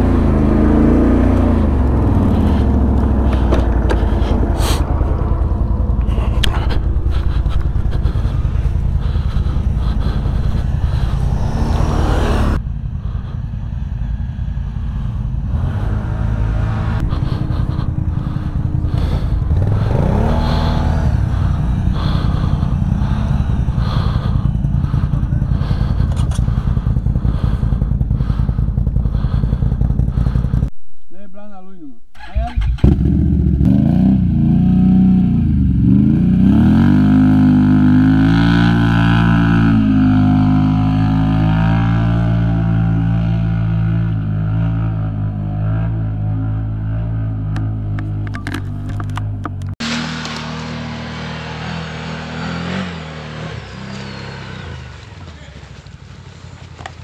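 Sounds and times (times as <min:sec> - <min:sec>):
atv engines revving: 0:00.0 - 0:30.7, 0:32.2 - 0:57.0.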